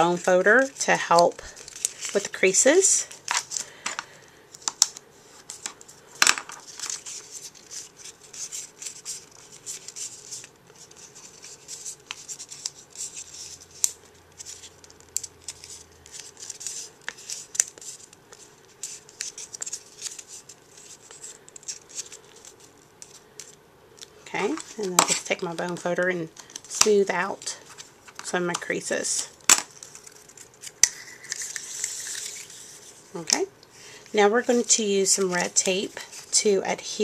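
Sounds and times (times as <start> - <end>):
paper crackling and rustling: 0.0 - 37.0.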